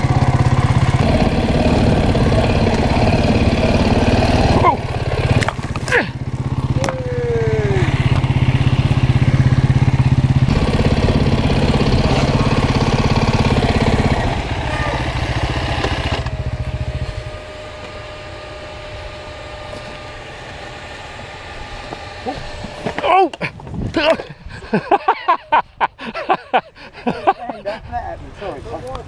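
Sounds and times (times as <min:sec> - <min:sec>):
dirt bike engines running: 0:00.0 - 0:29.0
dirt bike idling: 0:00.0 - 0:29.0
passing dirt bike: 0:00.0 - 0:29.0.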